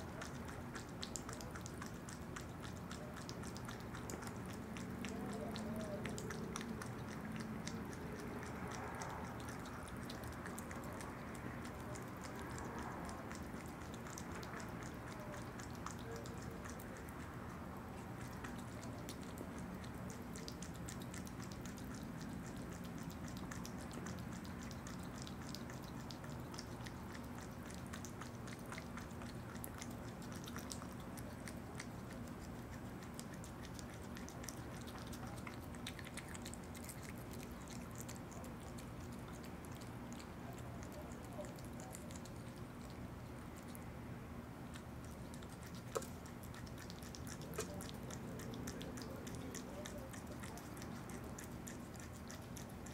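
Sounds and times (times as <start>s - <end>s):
animal chewing clicks: 0.0s - 52.9s.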